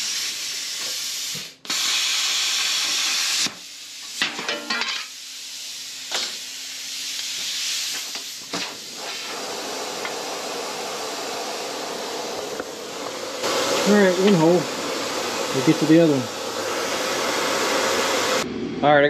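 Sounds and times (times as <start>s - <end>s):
plasma cutter hissing: 0.0s - 18.4s.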